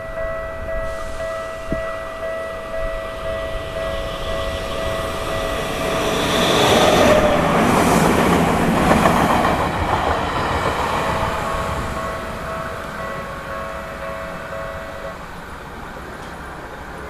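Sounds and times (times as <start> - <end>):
crossing warning bell ringing: 0.0 - 17.0
electric train passing: 0.0 - 17.0.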